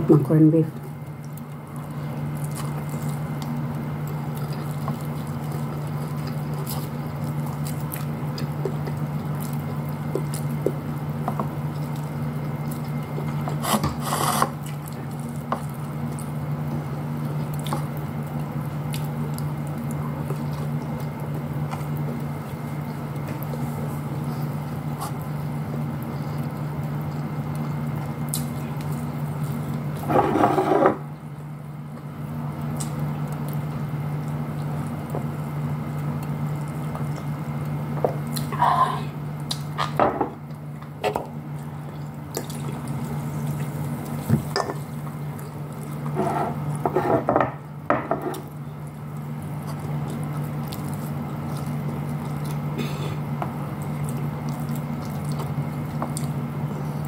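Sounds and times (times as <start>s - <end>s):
steady low hum: 0.0s - 57.0s
person chewing: 1.1s - 30.5s, 32.7s - 46.9s, 48.2s - 57.0s.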